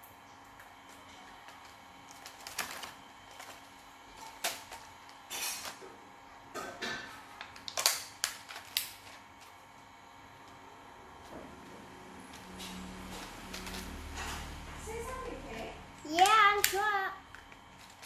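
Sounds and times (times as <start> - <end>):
cardboard and plastic rustling: 0.5 - 6.0, 7.4 - 10.6, 11.2 - 14.7, 15.4 - 18.0.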